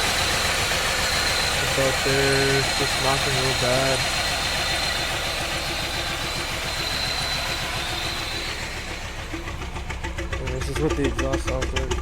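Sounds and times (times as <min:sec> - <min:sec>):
high whine: 0:00.0 - 0:10.5
car engine idling roughly and knocking: 0:00.0 - 0:12.0.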